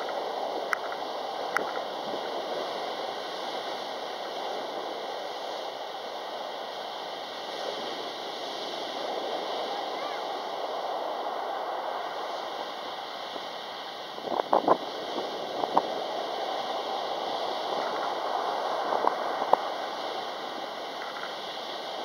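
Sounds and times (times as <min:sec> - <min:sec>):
waves washing on pebbly shore: 0:00.0 - 0:22.0.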